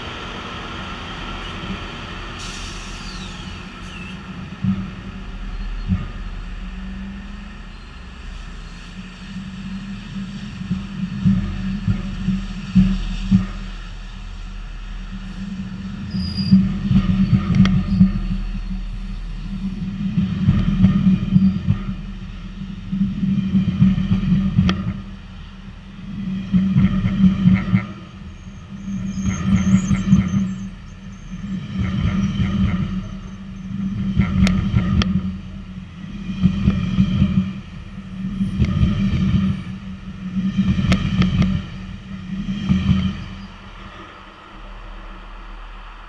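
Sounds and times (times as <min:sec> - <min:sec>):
train wheels rumbling and clattering: 0:00.0 - 0:46.0.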